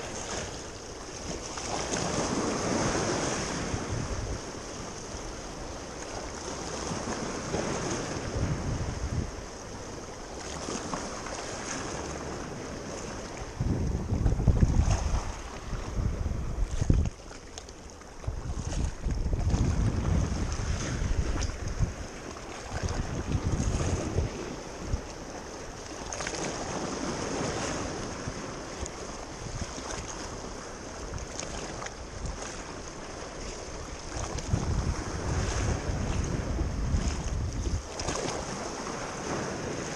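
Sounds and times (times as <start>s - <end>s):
sea surf washing ashore: 0.0s - 39.9s
wind buffeting microphone: 1.2s - 5.6s, 6.3s - 9.8s, 10.6s - 17.3s, 18.2s - 32.8s, 33.4s - 39.9s.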